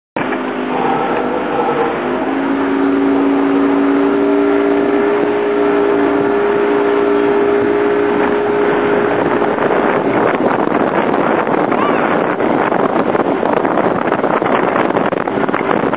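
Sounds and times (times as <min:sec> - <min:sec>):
motorboat engine drone: 0:00.2 - 0:15.9
wind and water rushing: 0:00.2 - 0:15.9.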